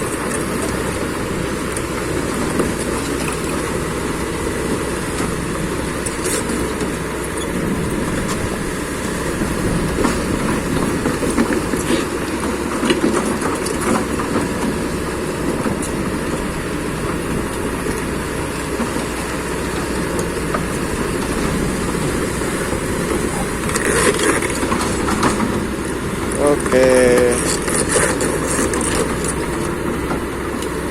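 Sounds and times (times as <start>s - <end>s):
heavy machine engine running: 0.0s - 30.9s.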